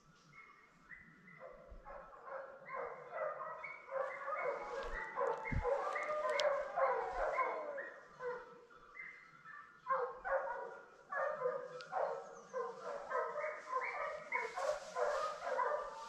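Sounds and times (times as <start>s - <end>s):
dogs baying: 1.5s - 8.5s, 9.9s - 16.0s.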